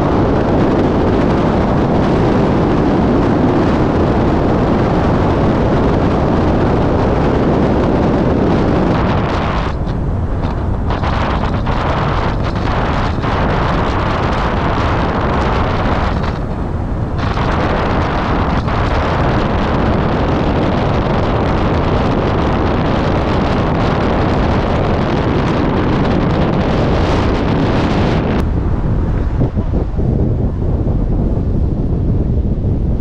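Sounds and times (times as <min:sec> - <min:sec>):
road and tyre noise: 0:00.0 - 0:33.0
wind buffeting microphone: 0:00.0 - 0:33.0.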